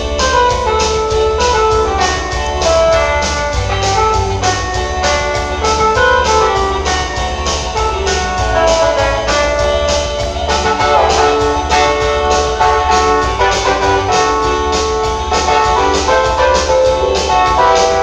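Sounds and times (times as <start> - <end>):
electronic keyboard: 0.0 - 18.0
fast steady beat: 0.0 - 18.0
upbeat gospel dance music: 0.0 - 18.0.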